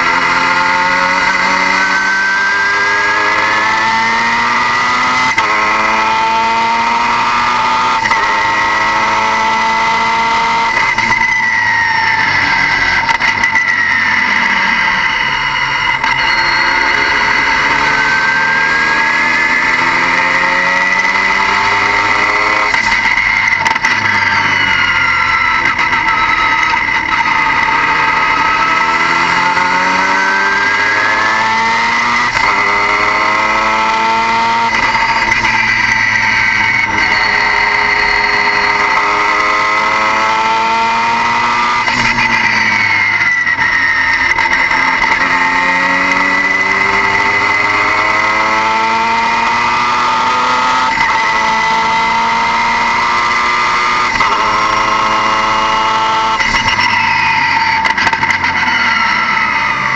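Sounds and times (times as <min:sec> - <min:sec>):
car engine accelerating: 0:00.0 - 0:59.9
steady high whine: 0:07.1 - 0:59.9.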